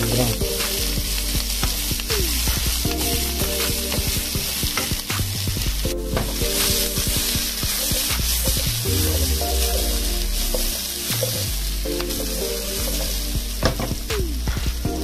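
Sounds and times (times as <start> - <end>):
onion and garlic sizzling in oil: 0.0 - 14.5
background music: 0.0 - 15.0.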